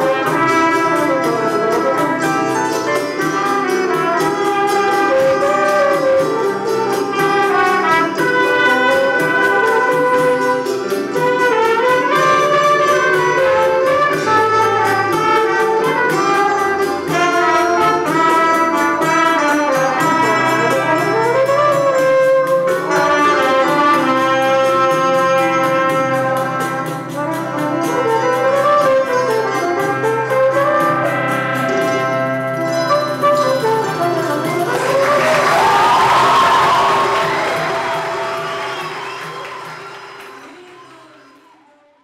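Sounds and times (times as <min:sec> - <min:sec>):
electric keyboard: 0:00.0 - 0:41.3
trumpets playing melody: 0:00.0 - 0:41.3
acoustic guitar: 0:00.0 - 0:41.6
pandeiro: 0:00.0 - 0:42.0.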